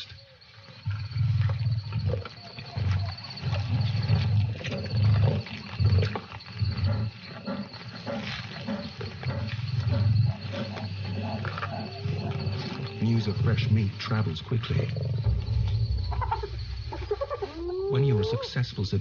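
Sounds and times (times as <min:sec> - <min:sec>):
lions growling: 0:00.0 - 0:18.6.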